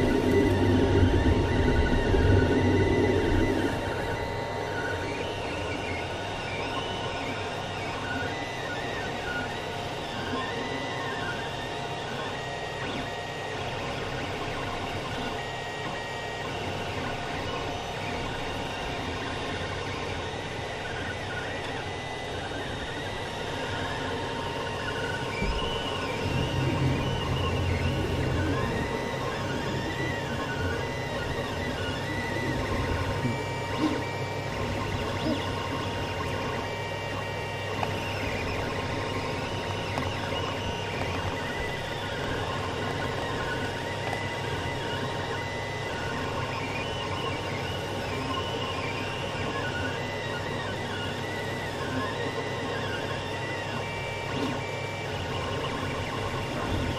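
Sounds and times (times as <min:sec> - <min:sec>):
printer fans running: 0:00.0 - 0:56.9
stepper motors whining: 0:00.0 - 0:56.9.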